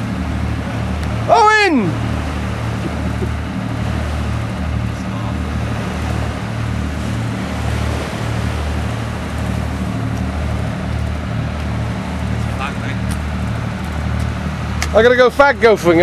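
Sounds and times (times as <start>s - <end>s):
motorboat engine throbbing: 0.0s - 16.0s
water rushing past hull: 0.0s - 16.0s.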